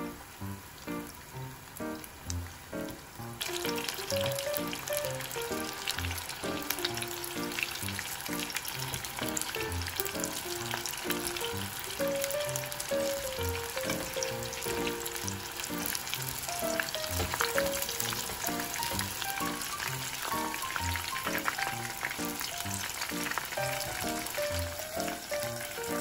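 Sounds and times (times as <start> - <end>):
oil sizzling and crackling: 0.0 - 26.0.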